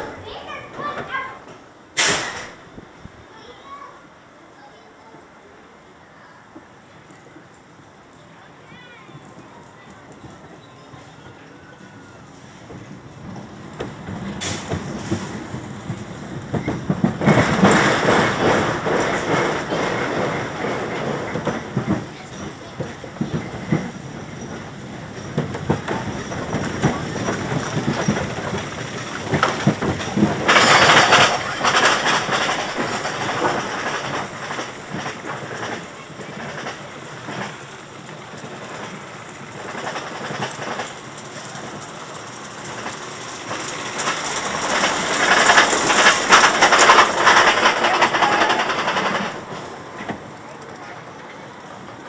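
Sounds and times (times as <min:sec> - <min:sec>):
roller coaster cars rattling on track: 0:00.0 - 0:52.0.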